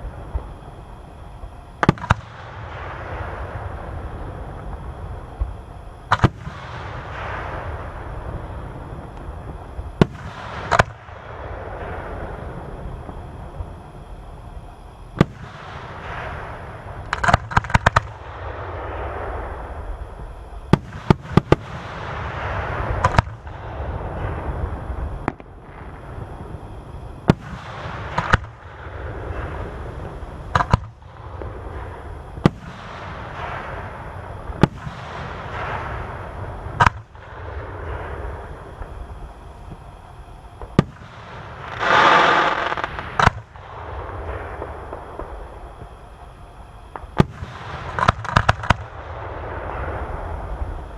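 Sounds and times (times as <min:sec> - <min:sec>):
rushing crackling fireworks: 0:00.0 - 0:50.9
fireworks shells bursting: 0:01.8 - 0:12.5, 0:15.2 - 0:50.9.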